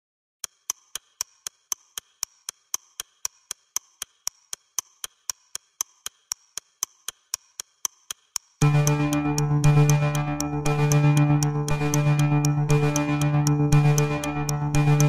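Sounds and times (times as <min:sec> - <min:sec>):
clock ticking: 0:00.4 - 0:15.0.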